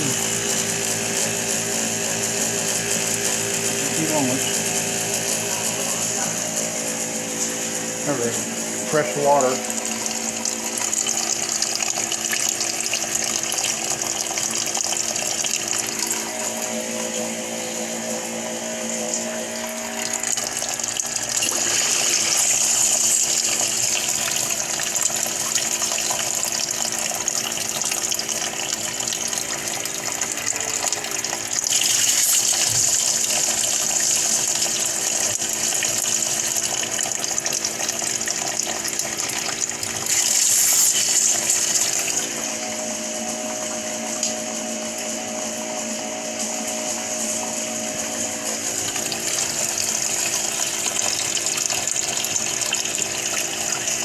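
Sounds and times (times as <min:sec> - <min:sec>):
water heater pump humming: 0:00.0 - 0:54.0
water running: 0:00.0 - 0:54.0.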